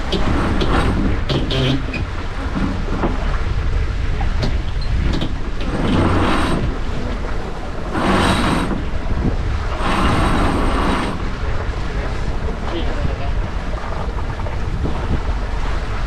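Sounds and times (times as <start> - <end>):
rushing water: 0.0 - 16.0
steady low rumble: 0.0 - 16.0
wind buffeting microphone: 0.0 - 16.0.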